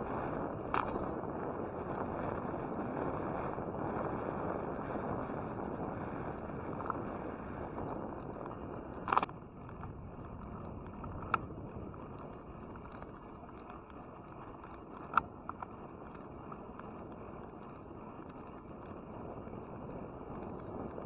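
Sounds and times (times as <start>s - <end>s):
bicycle tyres rolling on asphalt: 0.0s - 21.0s
wind noise: 0.0s - 21.0s
sharp clicks from bike: 0.1s - 21.0s.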